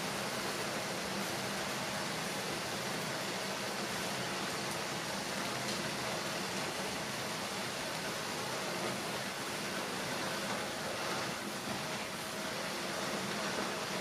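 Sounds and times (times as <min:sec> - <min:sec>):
gas stove burner hissing: 0:00.0 - 0:14.0.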